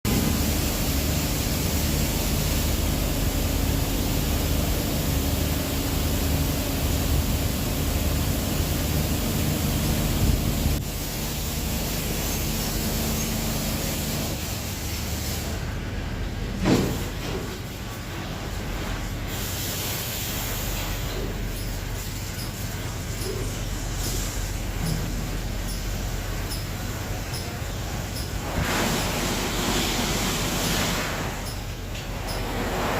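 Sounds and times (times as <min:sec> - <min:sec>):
car wash machinery hum: 0:00.0 - 0:32.9
water spraying hiss: 0:00.1 - 0:15.7, 0:17.9 - 0:32.9.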